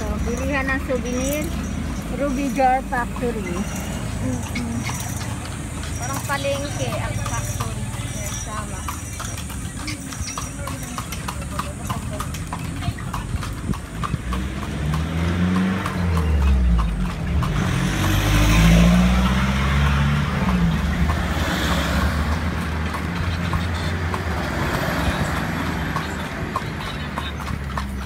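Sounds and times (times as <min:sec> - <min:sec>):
horse hooves clip-clopping on road: 0:00.0 - 0:28.0
vehicle engine passing: 0:00.0 - 0:28.0.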